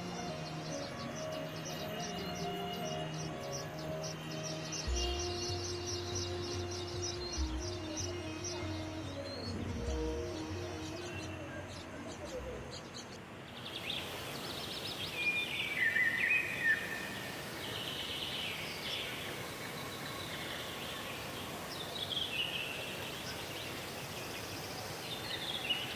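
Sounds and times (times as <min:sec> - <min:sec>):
small birds chirping: 0:00.0 - 0:25.9
steady background hiss: 0:00.0 - 0:25.9.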